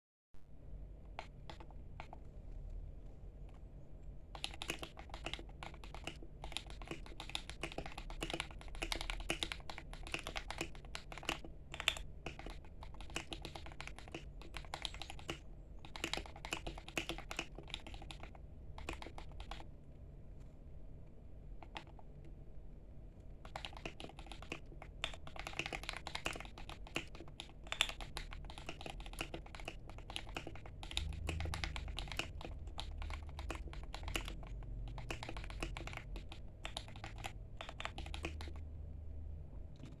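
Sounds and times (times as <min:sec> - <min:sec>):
typing on mechanical keyboard: 0:01.1 - 0:02.2, 0:04.3 - 0:19.7, 0:21.6 - 0:22.1, 0:23.4 - 0:38.6.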